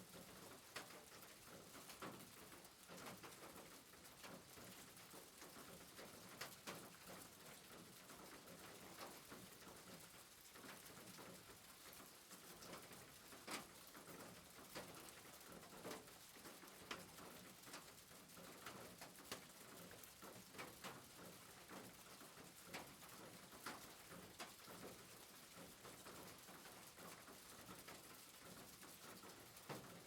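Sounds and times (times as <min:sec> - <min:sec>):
soft rain hiss: 0:00.0 - 0:30.0.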